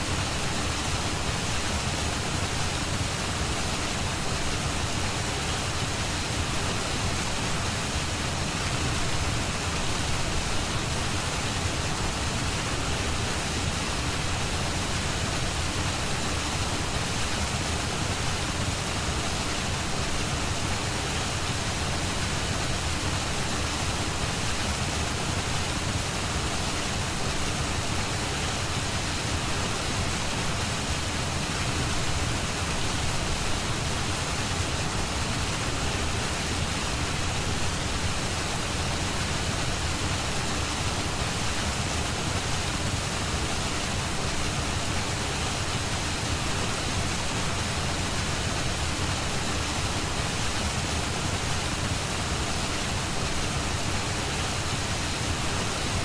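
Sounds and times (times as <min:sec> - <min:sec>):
steady rain-like hiss: 0:00.0 - 0:56.0.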